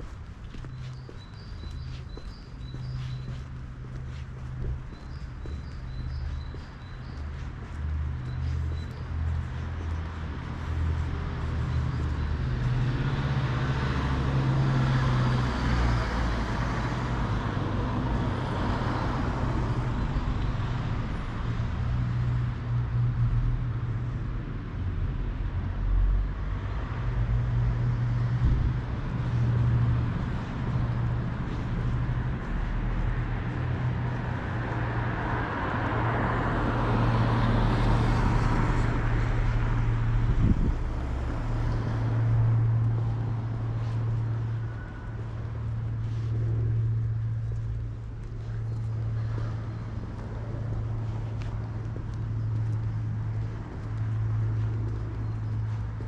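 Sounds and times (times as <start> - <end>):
cars passing: 0.0 - 56.0
low traffic rumble: 0.0 - 56.0.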